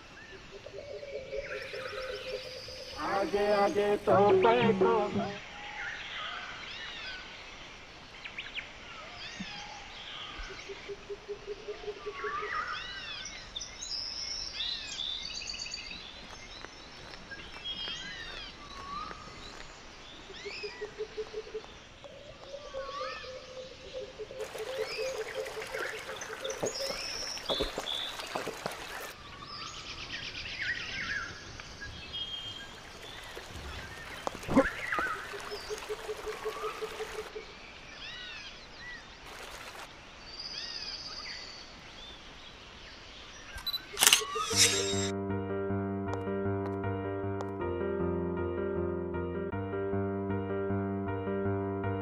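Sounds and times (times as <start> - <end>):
birds chirping: 0.0 - 45.1.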